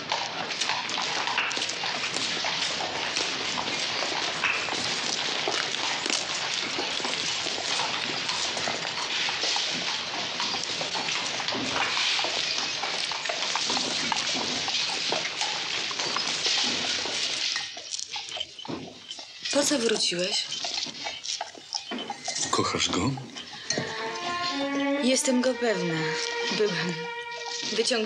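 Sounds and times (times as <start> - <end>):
knocks and clatters of tools: 0.0 - 24.8.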